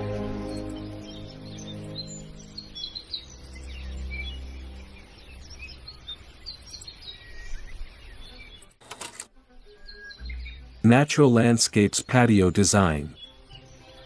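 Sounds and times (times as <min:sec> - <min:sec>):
small birds chirping: 0:00.0 - 0:08.8, 0:09.5 - 0:14.0.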